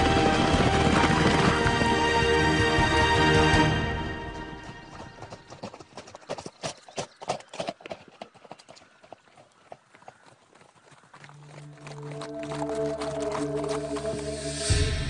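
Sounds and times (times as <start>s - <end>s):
horse hoofbeats on earth path: 0.0s - 14.5s.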